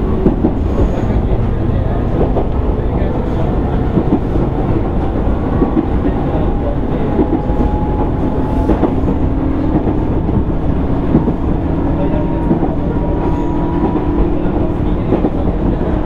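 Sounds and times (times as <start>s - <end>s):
train motor rumble and hum: 0.0s - 16.0s.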